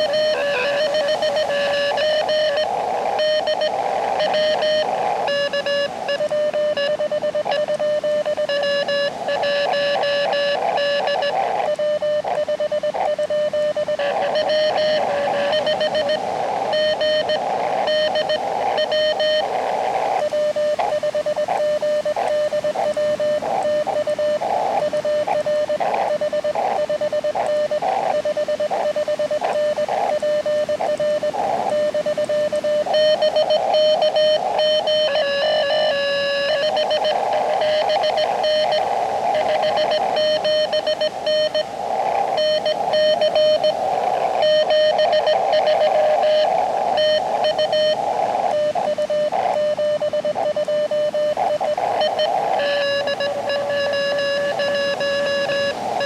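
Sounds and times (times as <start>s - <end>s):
morse code tones: 0.0s - 56.0s
radio band hiss: 0.0s - 56.0s.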